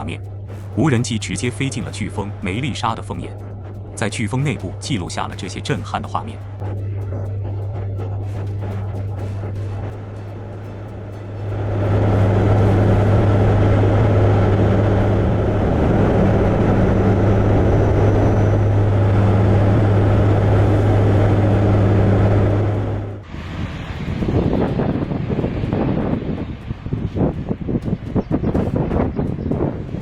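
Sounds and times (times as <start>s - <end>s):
gusty wind noise: 0.0s - 30.0s
propeller aircraft drone: 0.0s - 30.0s.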